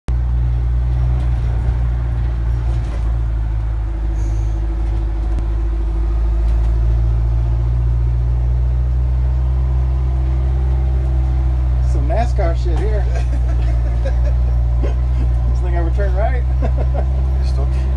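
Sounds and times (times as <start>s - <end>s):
diesel bus engine idling: 0.1s - 17.9s.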